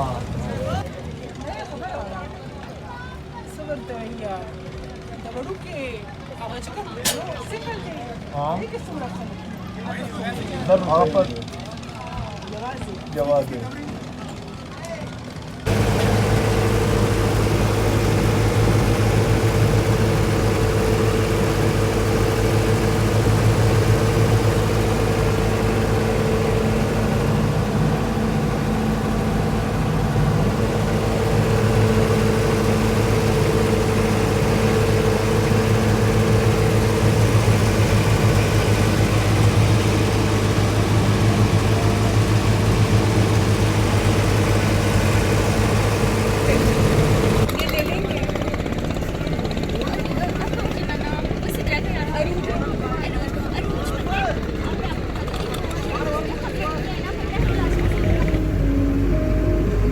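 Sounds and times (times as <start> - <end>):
watercraft engine running: 2.8 - 59.9.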